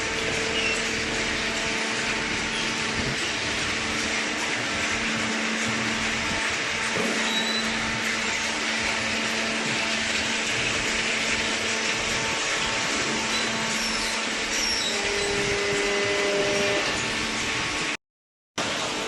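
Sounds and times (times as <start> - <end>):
baler conveyor whirring: 0.0 - 18.0.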